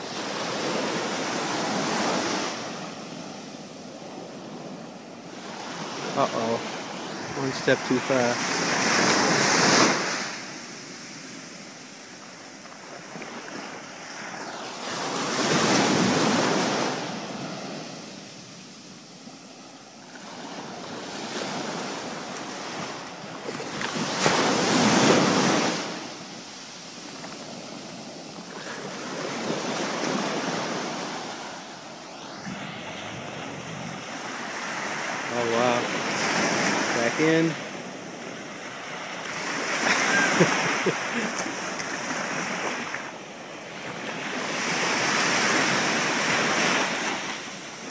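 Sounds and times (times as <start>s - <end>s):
ocean surf washing up beach: 0.0s - 47.9s.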